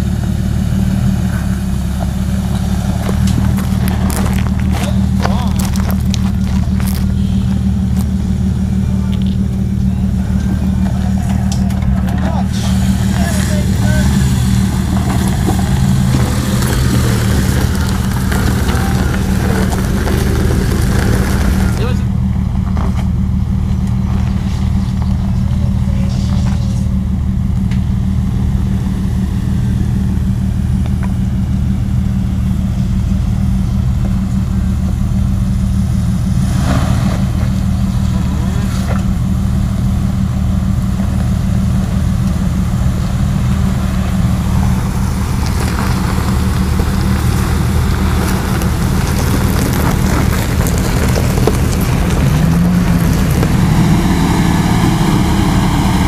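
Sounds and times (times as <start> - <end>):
engine running at low revs: 0.0 - 56.0.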